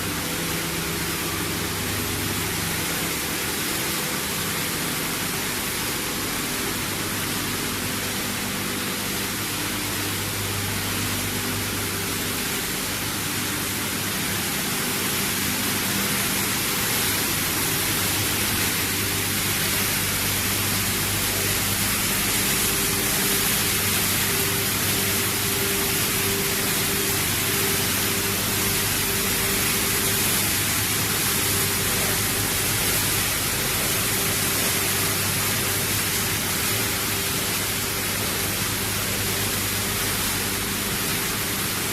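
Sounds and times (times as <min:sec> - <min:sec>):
machinery hissing: 0:00.0 - 0:41.9.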